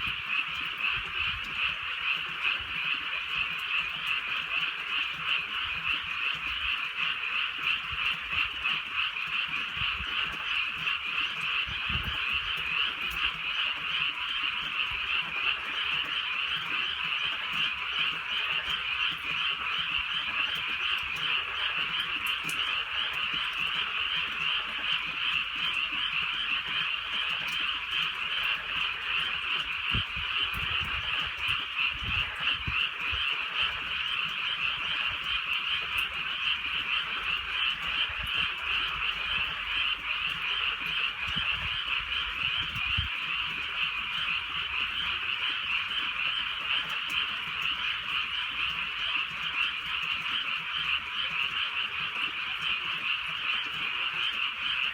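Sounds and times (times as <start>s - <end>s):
chorus of frogs croaking: 0.0s - 54.9s.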